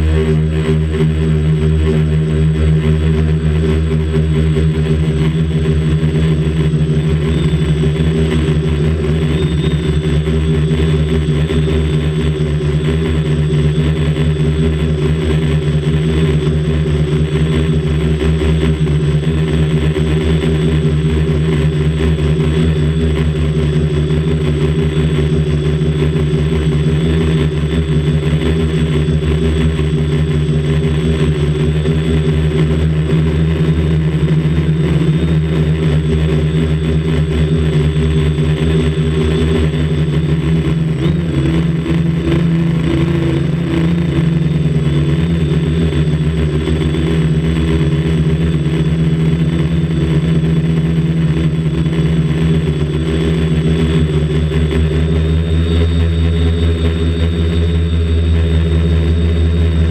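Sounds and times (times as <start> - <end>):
drone motors buzzing: 0.0 - 59.9.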